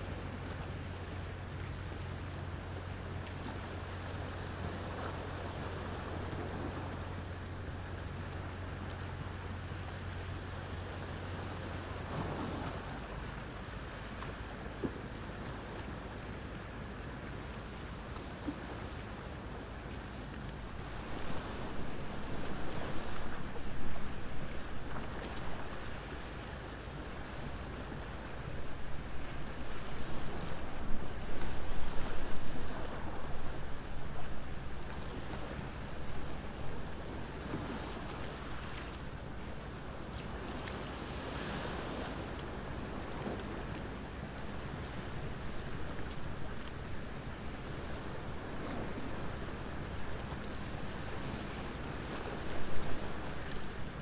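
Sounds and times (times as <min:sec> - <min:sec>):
sea waves washing ashore: 0:00.0 - 0:54.0.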